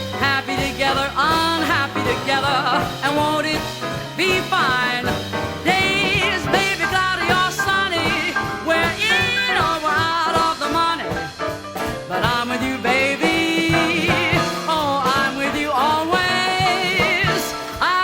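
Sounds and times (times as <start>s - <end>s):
swing jazz band: 0.0s - 18.0s
vibrato singing voice: 0.0s - 18.0s.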